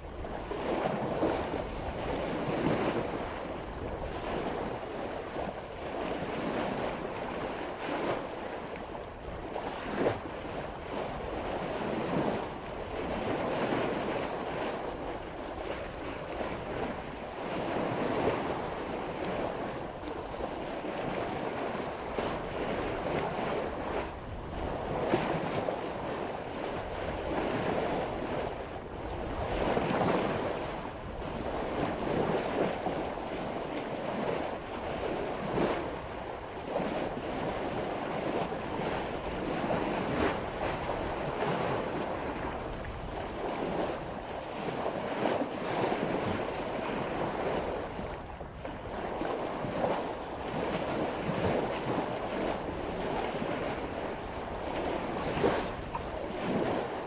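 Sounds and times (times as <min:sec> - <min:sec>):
water rushing along boat hull: 0:00.0 - 0:57.0
wind buffeting microphone: 0:00.0 - 0:57.0.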